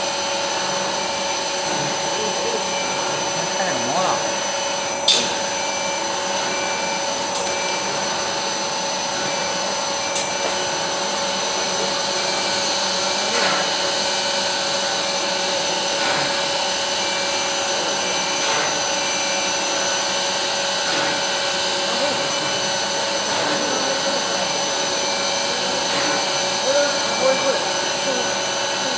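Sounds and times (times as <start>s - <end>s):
router spindle whine: 0.0s - 28.9s.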